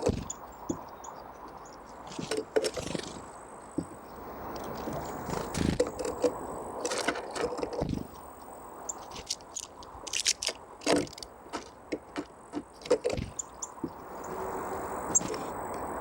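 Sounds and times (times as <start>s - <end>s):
birds pecking at seeds: 0.0s - 16.0s.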